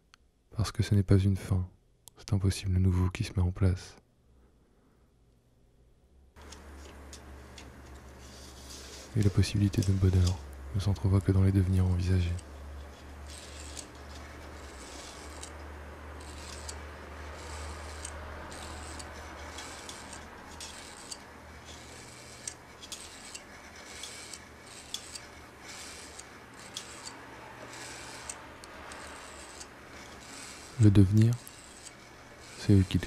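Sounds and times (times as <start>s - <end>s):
film winding through viewer: 6.4s - 33.0s.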